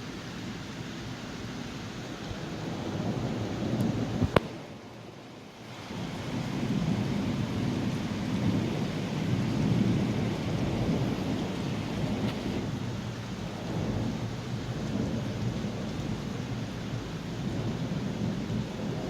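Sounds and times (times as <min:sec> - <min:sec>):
steady rain: 0:00.0 - 0:19.0
thunder rumbling: 0:02.1 - 0:19.0.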